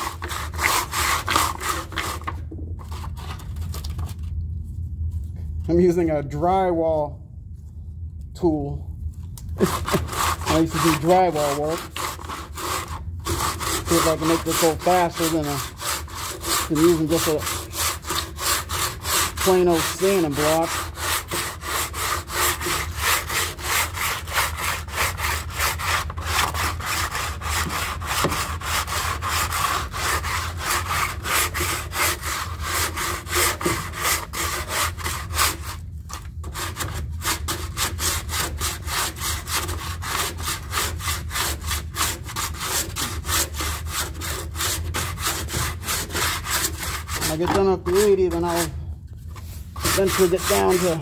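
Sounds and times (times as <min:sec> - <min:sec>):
sandpaper scraping filler: 0:00.0 - 0:03.8, 0:09.6 - 0:51.0.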